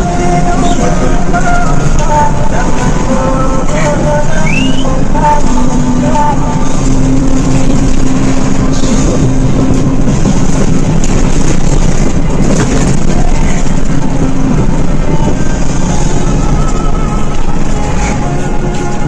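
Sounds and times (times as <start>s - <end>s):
coach engine drone: 0.0s - 19.0s
road and wind noise: 0.0s - 19.0s.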